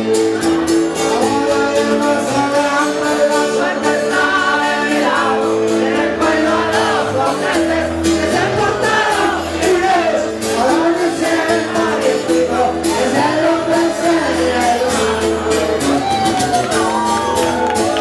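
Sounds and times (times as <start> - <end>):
guitar and bass: 0.0 - 18.0
man singing into microphone: 0.9 - 16.5.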